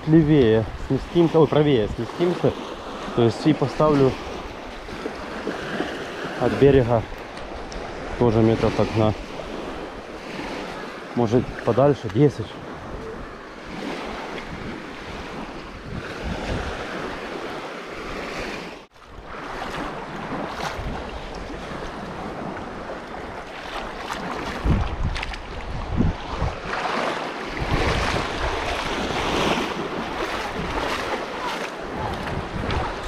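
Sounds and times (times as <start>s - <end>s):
wind buffeting the microphone: 0.0s - 2.0s, 3.8s - 18.3s, 19.1s - 33.0s
small waves washing on shore: 0.0s - 33.0s.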